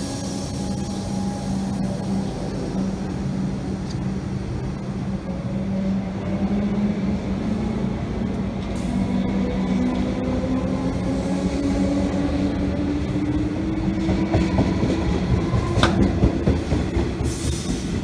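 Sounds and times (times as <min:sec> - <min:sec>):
electric train hum: 0:00.0 - 0:18.0
wheels rumbling on rails: 0:00.0 - 0:18.0.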